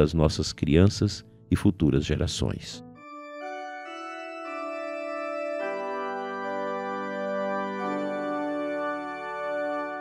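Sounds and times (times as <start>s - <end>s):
organ-like keyboard chords: 0.0s - 10.0s.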